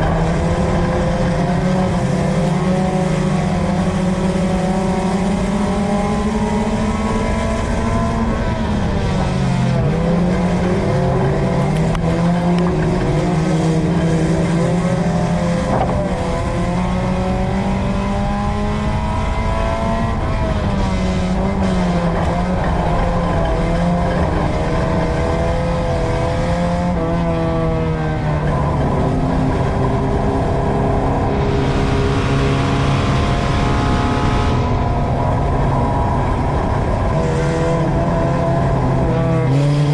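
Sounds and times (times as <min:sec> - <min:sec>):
race car engine under load: 0:00.0 - 0:39.9
road and tyre noise: 0:00.0 - 0:39.9.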